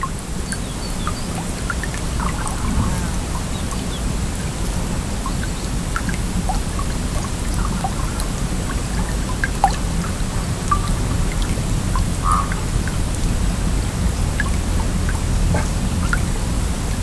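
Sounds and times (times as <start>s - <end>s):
stream water rushing: 0.0s - 17.0s
water plinks and drips: 0.0s - 17.0s.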